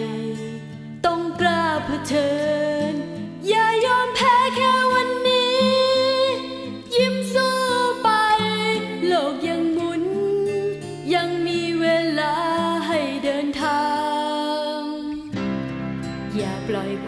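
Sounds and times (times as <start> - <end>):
person singing with vibrato: 0.0 - 15.4.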